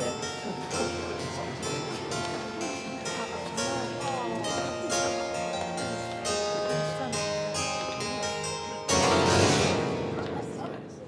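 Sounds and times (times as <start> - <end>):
harpsichord dance tune: 0.0 - 11.0.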